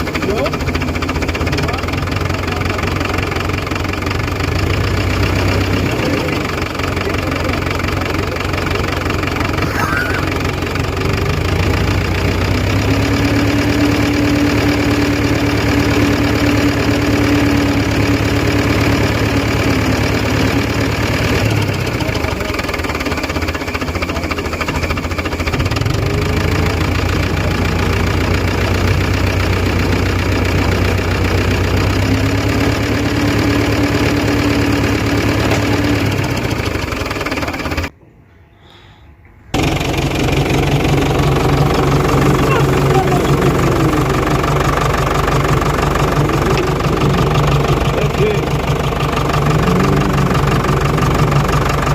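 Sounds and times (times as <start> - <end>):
diesel tractor engine revving: 0.0 - 37.9, 39.5 - 51.9.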